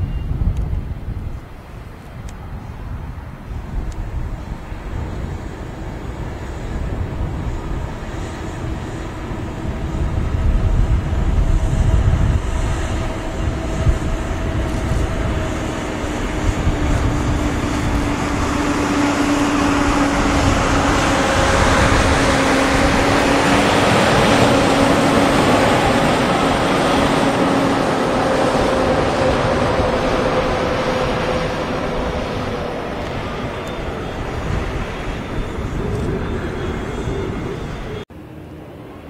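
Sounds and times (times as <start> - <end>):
jet engine low rumble: 0.0 - 39.0
rushing jet noise: 0.0 - 39.0.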